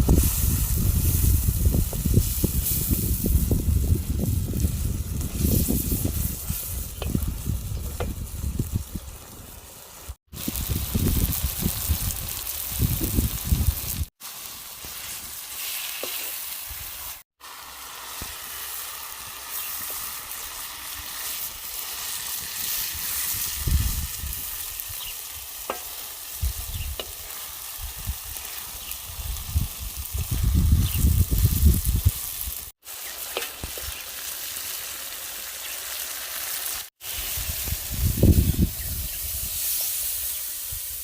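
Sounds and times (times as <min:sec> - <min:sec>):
food sizzling in hot oil: 0:00.0 - 0:41.0.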